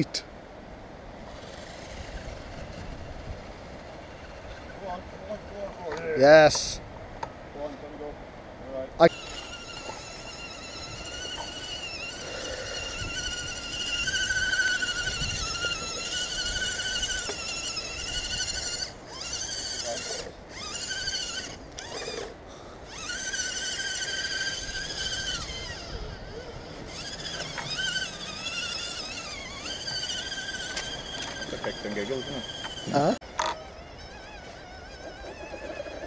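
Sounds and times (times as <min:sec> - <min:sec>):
electric motors whining: 0:01.1 - 0:06.8, 0:09.0 - 0:36.0.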